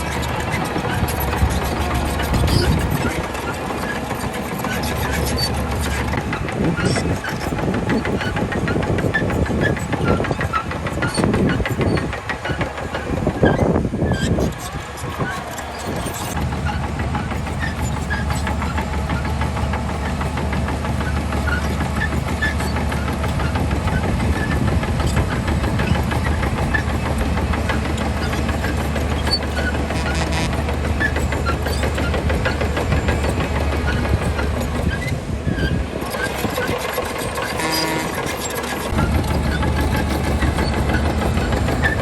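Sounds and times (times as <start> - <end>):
diesel machinery engine drone: 0.0 - 42.0
short squeaks and clinks: 0.0 - 42.0.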